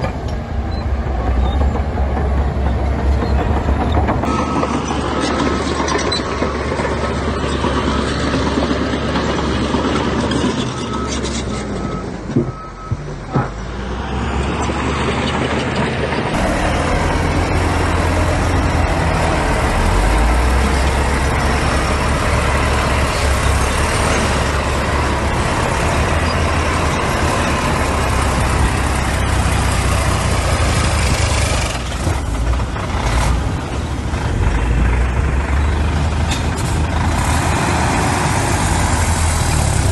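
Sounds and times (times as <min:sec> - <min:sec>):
heavy diesel trucks running: 0:00.0 - 0:39.9.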